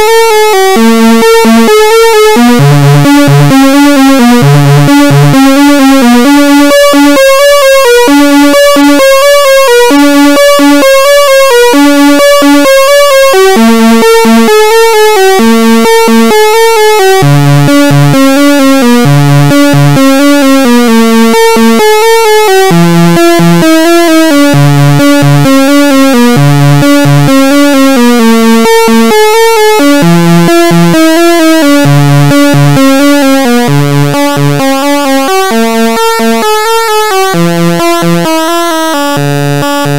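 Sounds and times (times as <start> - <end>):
synthesizer sequenced pattern: 0.0 - 39.9.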